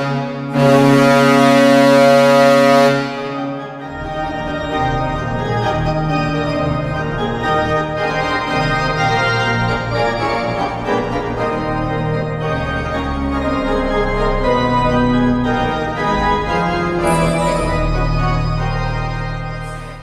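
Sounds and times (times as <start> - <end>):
organ music: 0.0 - 20.0.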